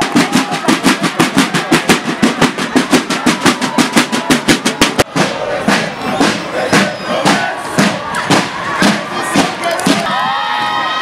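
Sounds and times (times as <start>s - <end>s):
marching drums beating: 0.0s - 10.9s.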